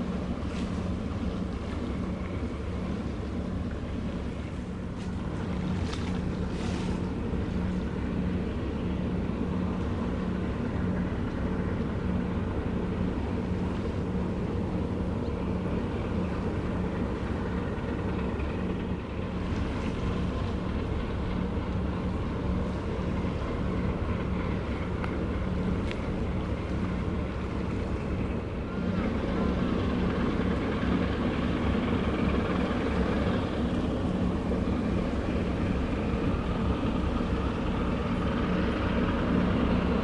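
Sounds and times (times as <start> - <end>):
ship engine droning: 0.0 - 40.0.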